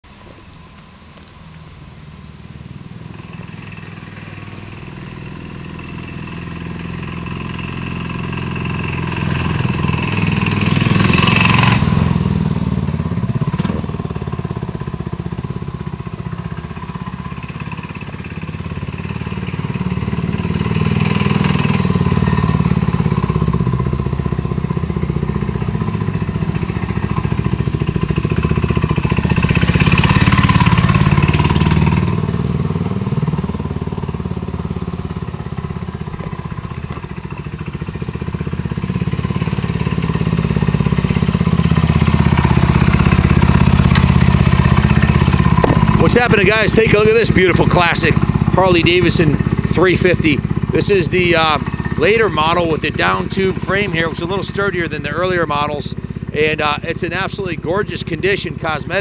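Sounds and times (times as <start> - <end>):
motorcycle engine passing: 1.6 - 59.0.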